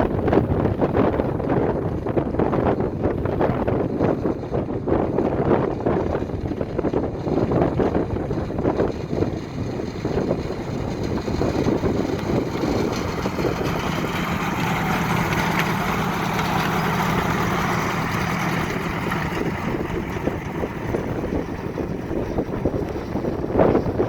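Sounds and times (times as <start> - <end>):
locomotive passing with low hum: 0.0 - 24.0
wind buffeting microphone: 0.0 - 24.0.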